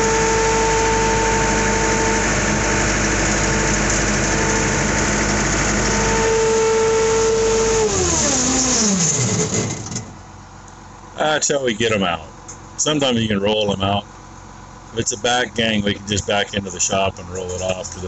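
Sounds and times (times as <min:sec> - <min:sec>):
loader engine running: 0:00.0 - 0:18.0
steady whine: 0:00.0 - 0:18.0.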